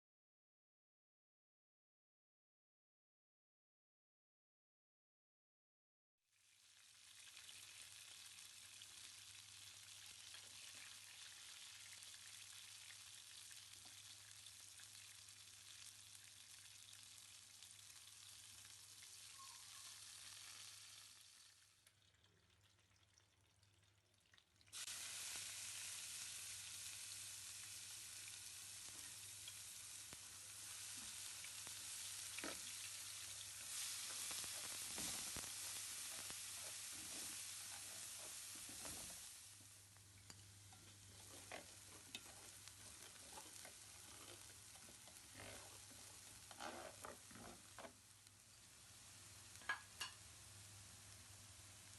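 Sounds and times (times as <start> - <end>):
food sizzling in a pan: 6.3 - 22.1, 24.7 - 51.9.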